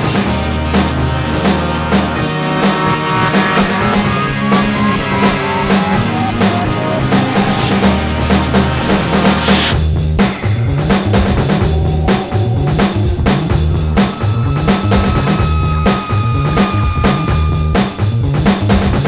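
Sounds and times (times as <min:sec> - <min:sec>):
background music with drum beat: 0:00.0 - 0:19.0
run of falling notes: 0:00.7 - 0:19.0.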